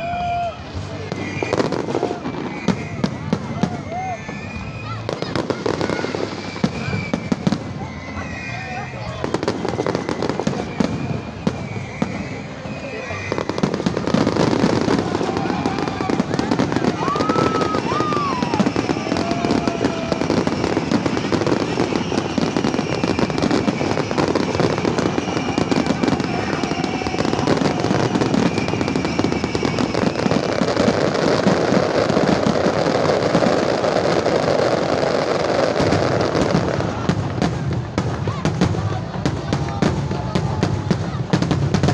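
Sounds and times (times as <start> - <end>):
fireworks crackling and banging: 0.0 - 41.9
fireworks whistling: 0.0 - 41.9.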